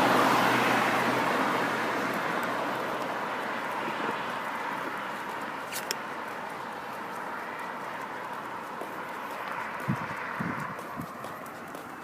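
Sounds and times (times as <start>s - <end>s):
car passing on road: 0.0s - 12.0s.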